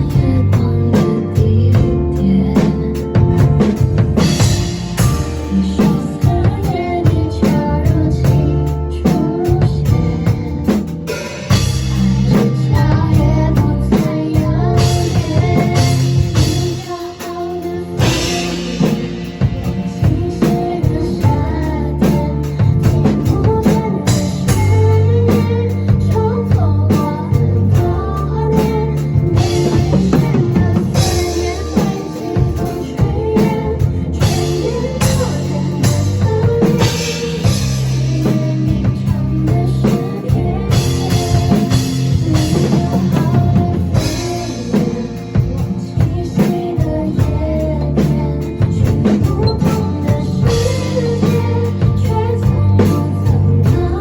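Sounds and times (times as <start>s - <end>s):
drum kit beat with cymbal crashes: 0.0s - 54.0s
pop song with singing: 0.0s - 54.0s.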